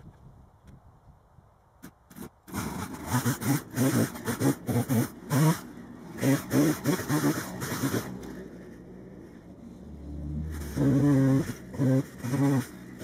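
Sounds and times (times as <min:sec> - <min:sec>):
chainsaw engine running in bursts: 0:02.1 - 0:13.0.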